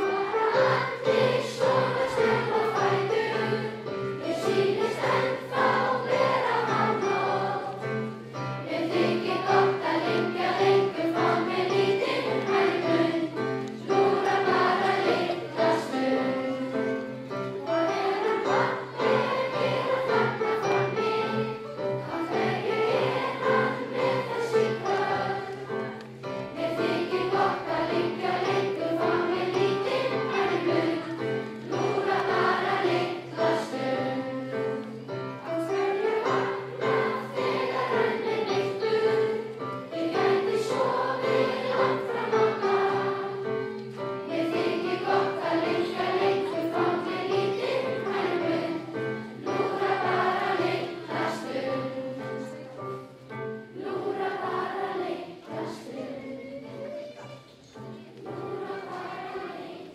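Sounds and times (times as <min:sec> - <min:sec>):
children singing in unison: 0:00.0 - 0:59.9.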